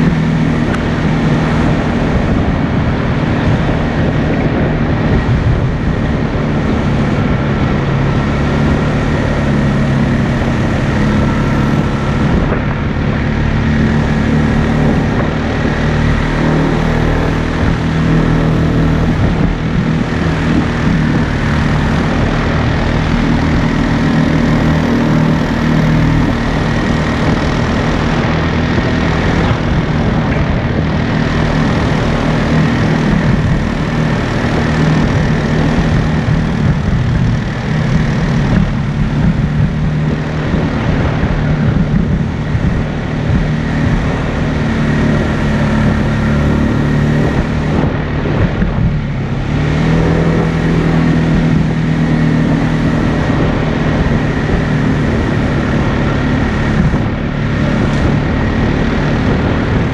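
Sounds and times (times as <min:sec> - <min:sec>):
atv engine running: 0:00.0 - 0:59.9
wind noise: 0:00.0 - 0:59.9.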